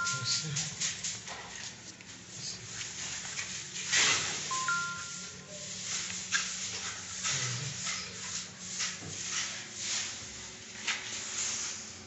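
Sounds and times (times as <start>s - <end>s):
soft scuffing and rustling: 0.1s - 4.6s, 5.4s - 12.0s.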